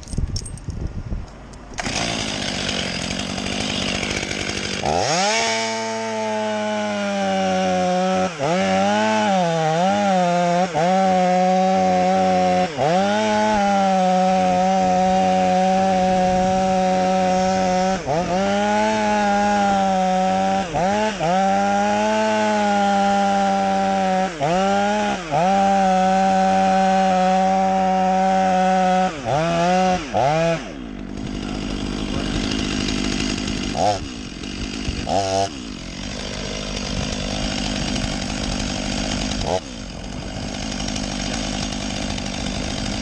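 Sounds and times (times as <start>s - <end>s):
chainsaw running at high revs: 1.8s - 43.0s.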